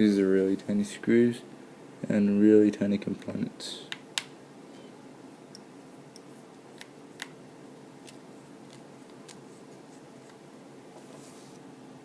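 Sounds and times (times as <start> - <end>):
soft brushing hiss: 0.0 - 12.0
steady low hum: 0.0 - 12.0.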